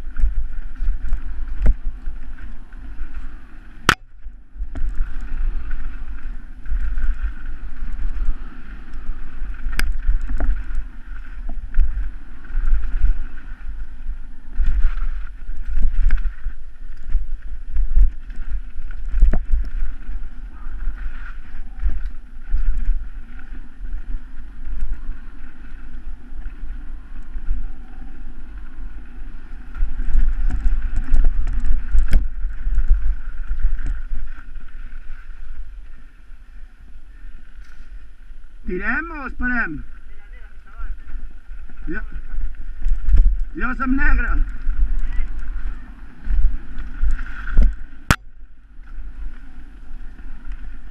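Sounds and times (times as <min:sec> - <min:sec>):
bike rattling over rough ground: 0:00.0 - 0:50.9
wind buffeting microphone: 0:00.0 - 0:50.9.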